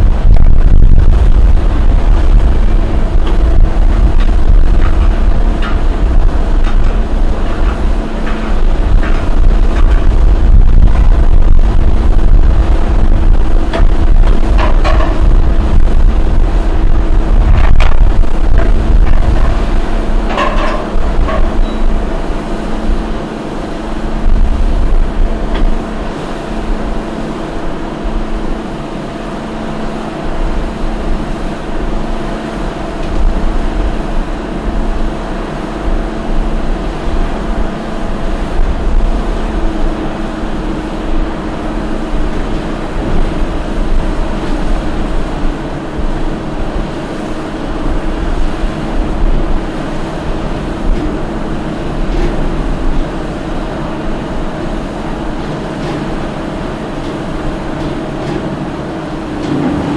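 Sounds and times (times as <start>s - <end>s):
machine low rumble: 0.0s - 59.9s
motor hum: 0.0s - 59.9s.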